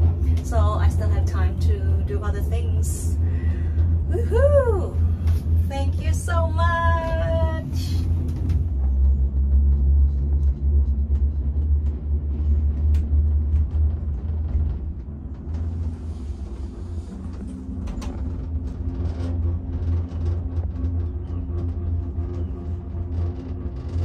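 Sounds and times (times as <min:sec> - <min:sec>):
faint hum: 0:00.0 - 0:24.0
vehicle low rumble: 0:00.0 - 0:24.0.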